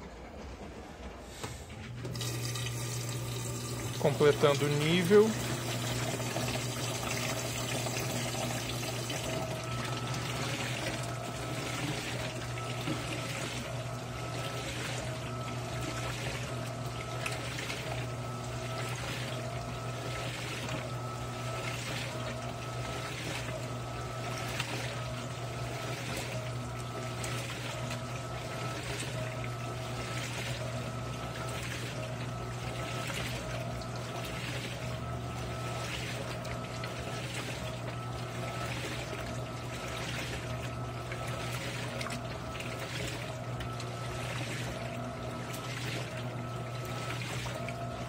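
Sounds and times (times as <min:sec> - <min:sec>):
washing machine motor hum: 0:00.0 - 0:48.0
water sloshing in surges: 0:00.1 - 0:48.0.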